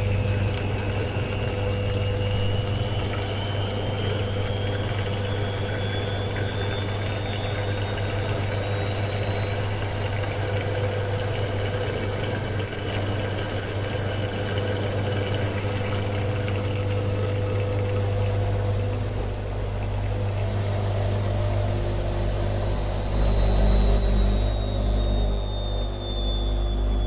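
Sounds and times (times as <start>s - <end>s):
washing machine spinning: 0.0s - 27.0s.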